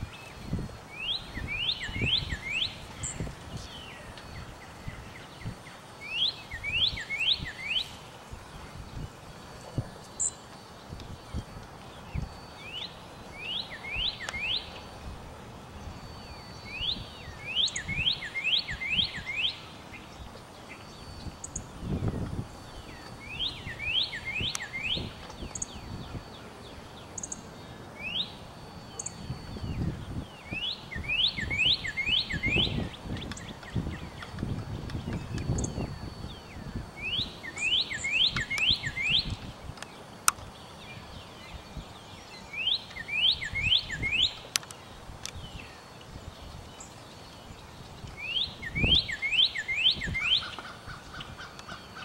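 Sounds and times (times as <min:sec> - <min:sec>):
songbird whistling song: 0:00.0 - 0:08.1, 0:09.0 - 0:15.0, 0:15.8 - 0:52.0.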